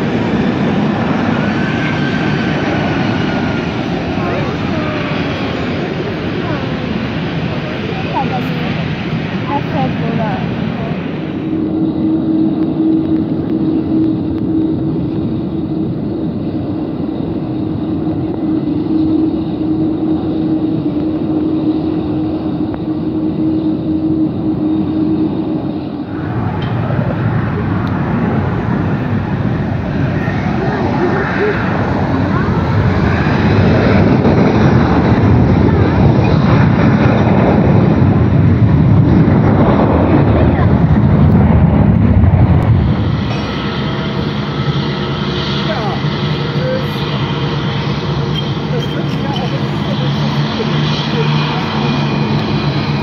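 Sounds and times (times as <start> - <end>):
jet engines rumbling: 0.0 - 53.0.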